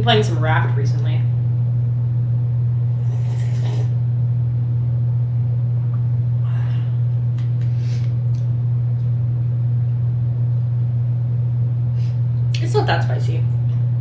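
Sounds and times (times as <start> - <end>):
loud low hum: 0.0 - 14.0.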